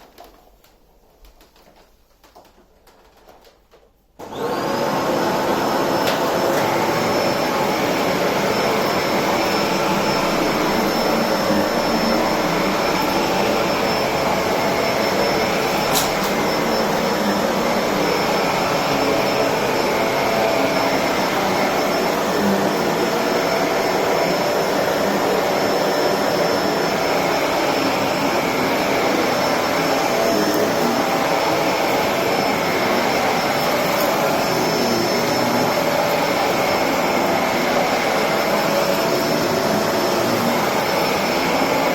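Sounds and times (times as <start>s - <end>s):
vacuum cleaner running: 4.2s - 41.9s.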